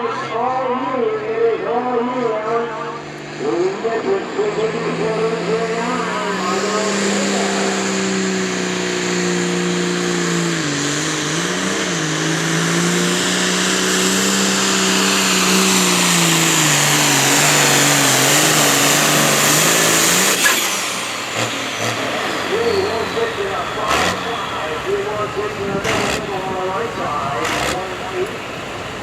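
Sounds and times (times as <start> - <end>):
tractor engine running under load: 3.0 - 29.0.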